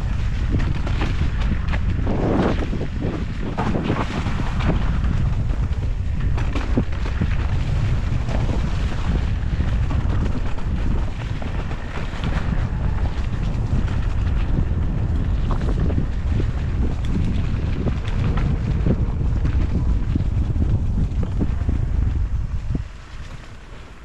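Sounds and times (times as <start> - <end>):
bike knocks and rattles: 0.0 - 24.0
wind buffeting microphone: 0.0 - 24.0.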